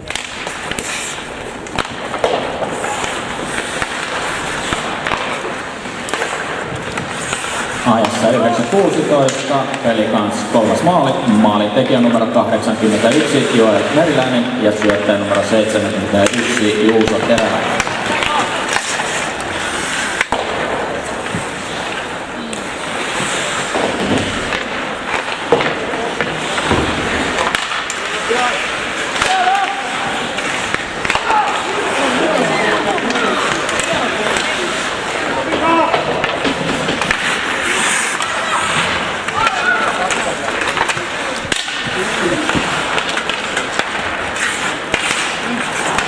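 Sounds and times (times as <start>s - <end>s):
hockey sticks and puck clacking: 0.0s - 46.0s
skate blades scraping ice: 0.0s - 46.0s.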